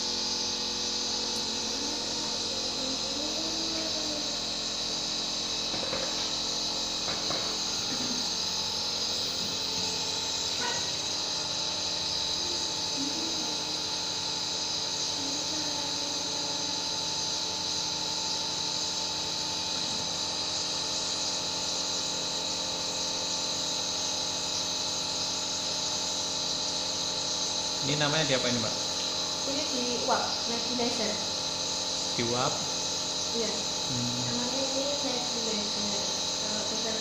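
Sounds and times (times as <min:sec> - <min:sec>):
nebulizer compressor humming: 0:00.0 - 0:37.0.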